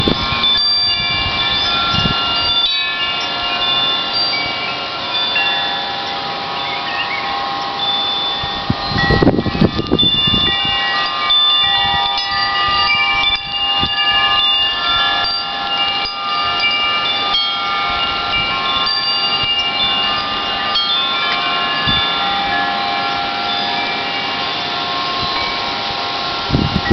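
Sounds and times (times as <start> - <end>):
wind chimes ringing: 0.0 - 26.9.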